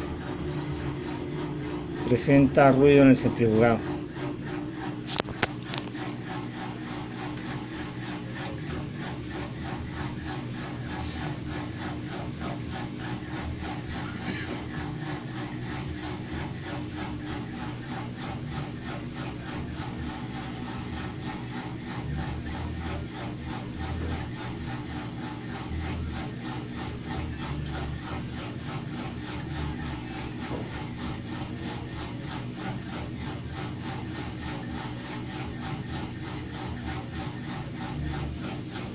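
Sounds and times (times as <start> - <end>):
washing machine rubbing and scraping: 0.0 - 38.9
washing machine running hum: 0.0 - 38.9.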